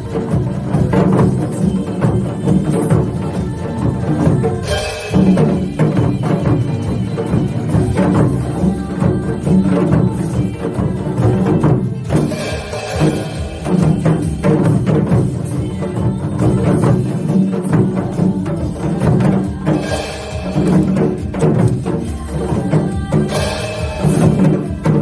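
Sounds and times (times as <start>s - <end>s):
hourglass drum quick rhythm: 0.0s - 25.0s
song with drum group: 0.0s - 25.0s.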